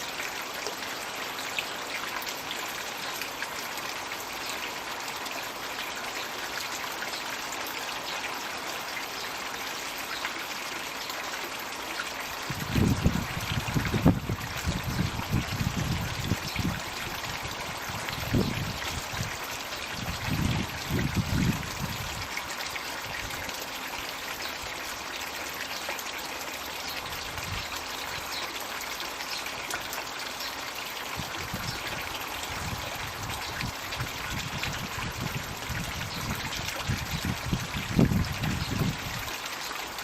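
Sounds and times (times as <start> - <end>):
water trickling into pond: 0.0 - 40.0.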